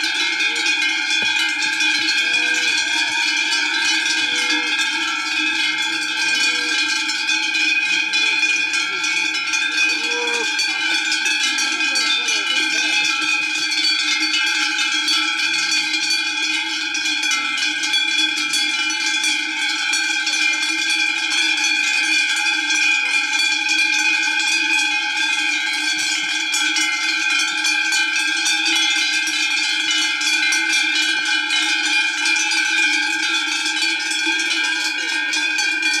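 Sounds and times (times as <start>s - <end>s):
cowbells clanging: 0.0s - 36.0s.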